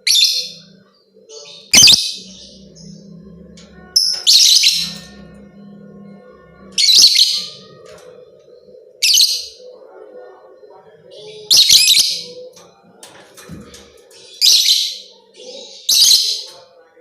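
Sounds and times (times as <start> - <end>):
faint low hum: 0.3 - 14.3.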